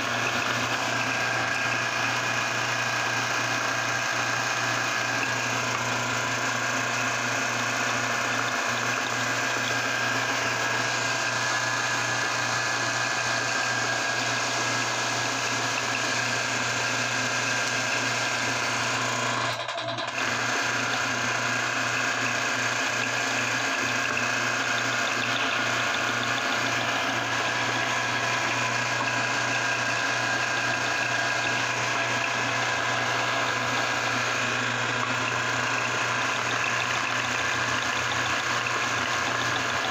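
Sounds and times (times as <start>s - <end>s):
meat grinder motor humming: 0.0s - 39.9s.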